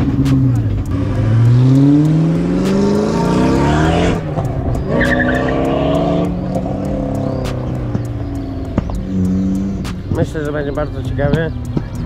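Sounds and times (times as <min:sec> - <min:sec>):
car engine revving hard: 0:00.0 - 0:10.2
tyres skidding and squealing: 0:00.0 - 0:12.0.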